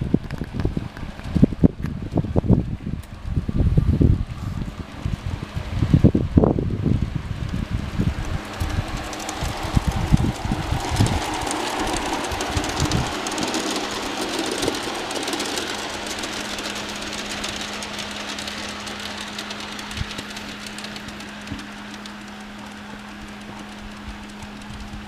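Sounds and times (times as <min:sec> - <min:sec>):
model train locomotives humming: 0:00.0 - 0:25.0
wheels clicking on rails: 0:00.0 - 0:25.0
wind buffeting microphone: 0:00.0 - 0:25.0.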